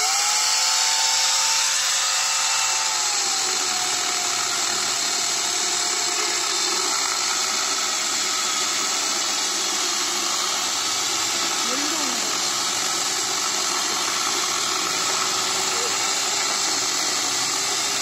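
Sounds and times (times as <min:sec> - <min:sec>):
electric chainsaw cutting log: 0:00.0 - 0:18.0.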